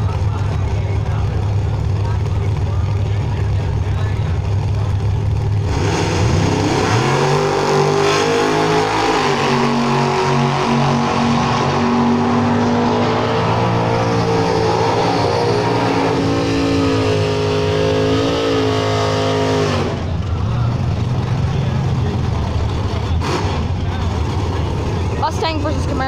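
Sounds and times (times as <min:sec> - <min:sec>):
drag car engines revving: 0:00.0 - 0:26.0.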